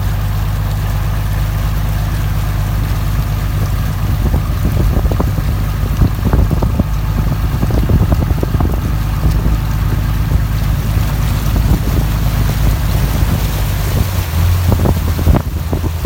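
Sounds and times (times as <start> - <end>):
truck engine and road rumble: 0.0 - 16.0
wind buffeting microphone: 1.8 - 16.0.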